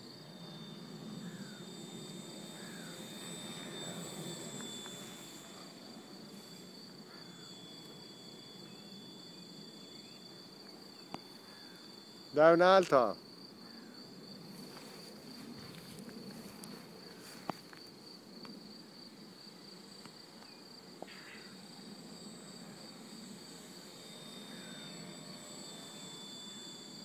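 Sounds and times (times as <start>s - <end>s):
low background hum: 0.0s - 18.9s, 19.6s - 27.0s
crickets trilling: 0.0s - 27.0s.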